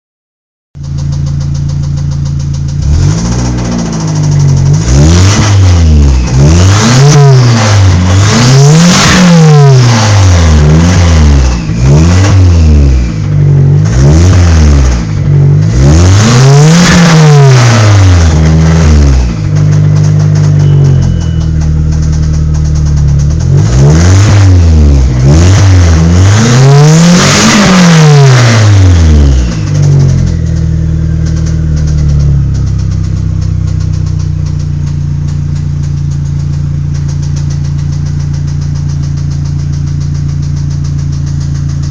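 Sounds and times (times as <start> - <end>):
car engine idling and revving: 0.8 - 41.9.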